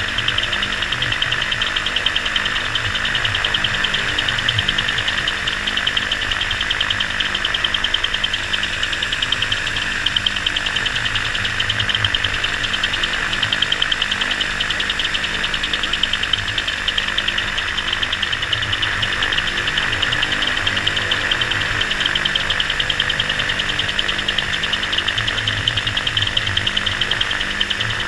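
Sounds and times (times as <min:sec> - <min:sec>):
microlight engine running: 0:00.0 - 0:28.0.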